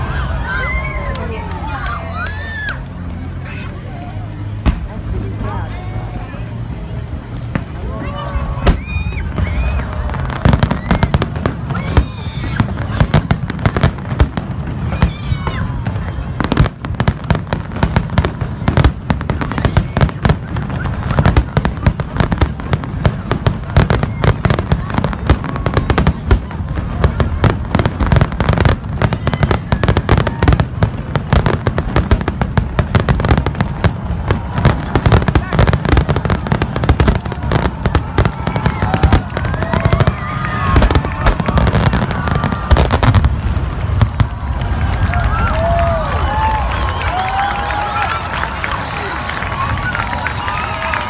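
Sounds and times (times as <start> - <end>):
fireworks bursting: 8.4 - 51.0.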